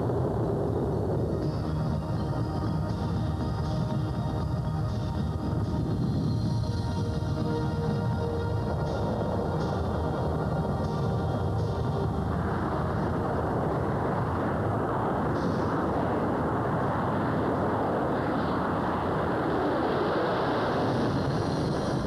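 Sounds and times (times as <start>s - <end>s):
loud jet engine noise: 0.0s - 22.0s
music: 0.0s - 22.0s.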